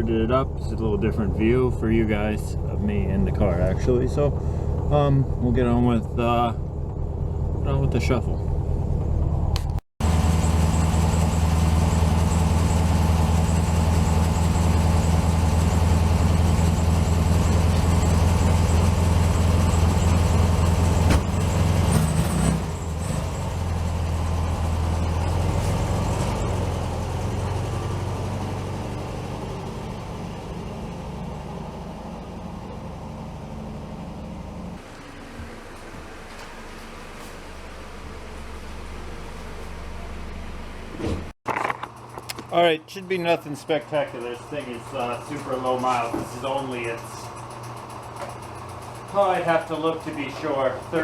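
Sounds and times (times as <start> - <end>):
car engine humming: 0.0 - 51.0.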